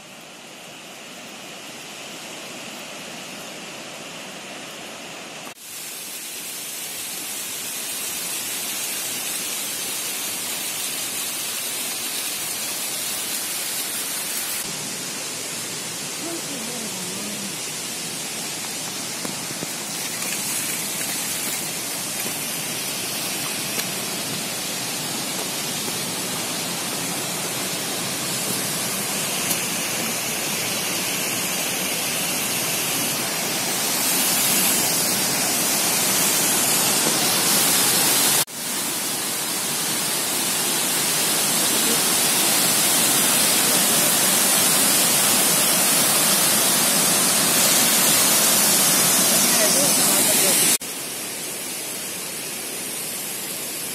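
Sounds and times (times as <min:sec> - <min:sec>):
waterfall roaring: 0:07.3 - 0:53.9.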